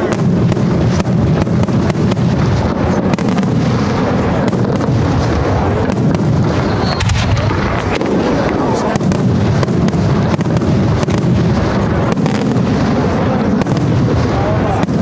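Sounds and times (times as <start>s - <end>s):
firework shell bursts rumbling: 0.0s - 15.0s
rapid sharp firework cracks: 0.0s - 15.0s.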